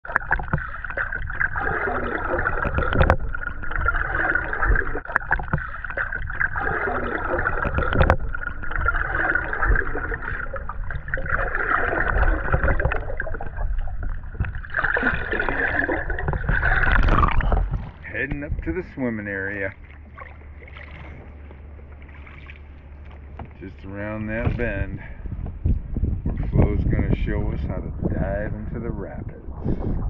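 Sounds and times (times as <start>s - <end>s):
muffled underwater water rush: 0.0s - 30.0s
low rumble: 1.2s - 30.0s.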